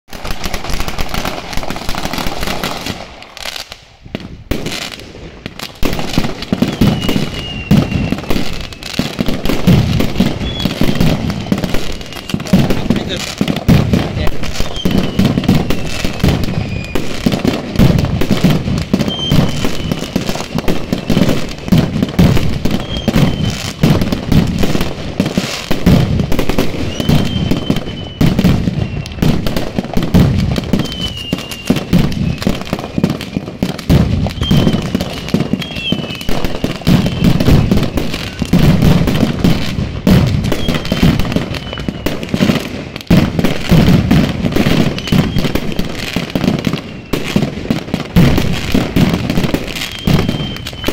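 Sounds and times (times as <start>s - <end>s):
firecrackers exploding: 0.0s - 50.9s.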